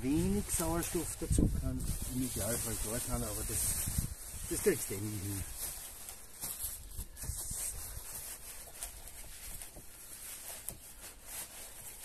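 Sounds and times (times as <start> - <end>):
cloth rubbing and rustling: 0.0 - 12.0.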